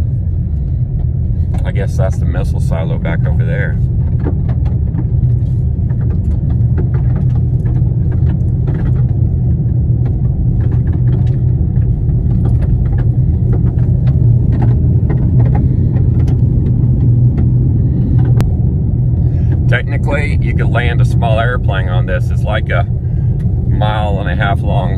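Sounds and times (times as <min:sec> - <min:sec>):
tyres and engine rumble: 0:00.0 - 0:24.9.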